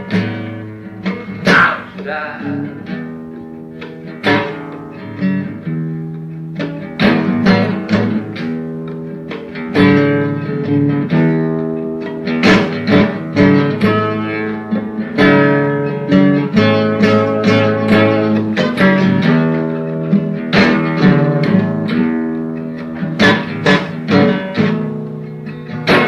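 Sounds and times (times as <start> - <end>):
blues guitar playing: 0.0 - 26.0.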